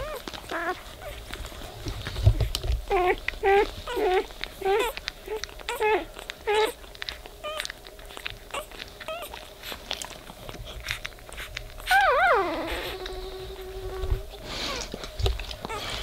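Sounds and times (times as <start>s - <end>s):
puppies squeaking: 0.0s - 1.4s, 2.1s - 16.0s
puppy crying: 0.0s - 1.4s, 2.8s - 9.8s, 10.4s - 16.0s.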